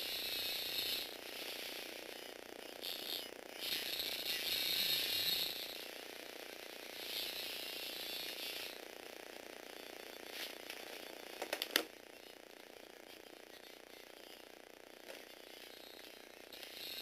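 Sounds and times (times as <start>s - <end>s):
toy electric motor whirring: 0.0s - 17.0s.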